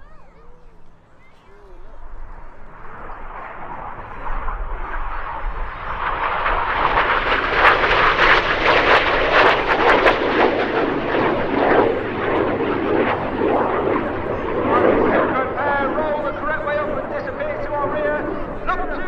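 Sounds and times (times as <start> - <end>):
jets roaring overhead: 0.8 - 19.0.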